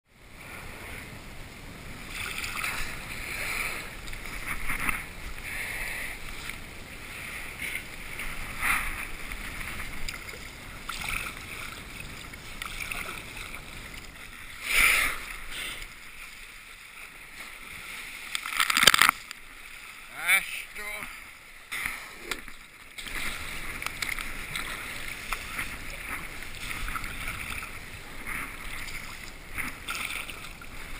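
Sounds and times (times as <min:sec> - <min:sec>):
kayak paddle splashing: 0:00.3 - 0:30.9.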